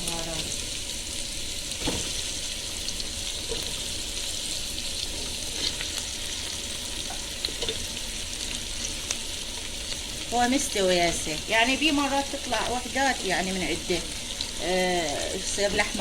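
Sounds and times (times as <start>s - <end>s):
meat and onions sizzling in fat: 0.0s - 16.0s.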